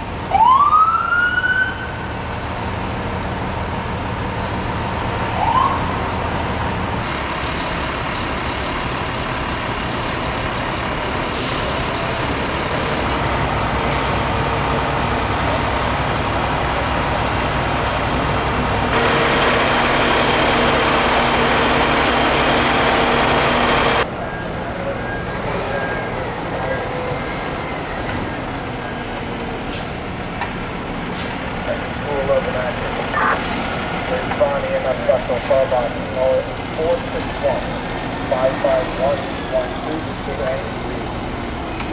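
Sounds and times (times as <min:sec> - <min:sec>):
diesel engines idling: 0:01.9 - 0:41.9.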